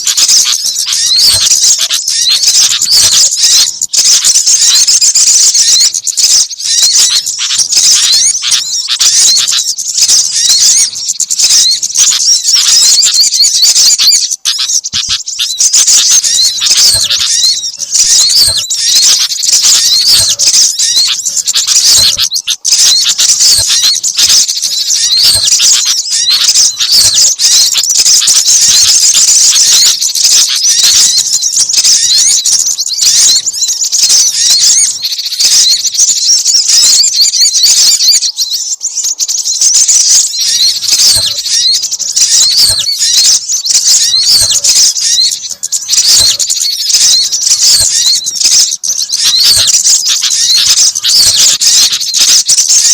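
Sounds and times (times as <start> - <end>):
songbirds chirping and twittering: 0.0 - 52.9.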